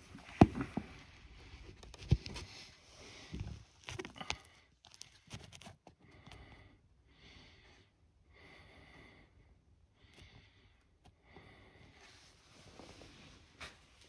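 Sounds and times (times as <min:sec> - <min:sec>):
soft breathing: 0:00.0 - 0:13.9.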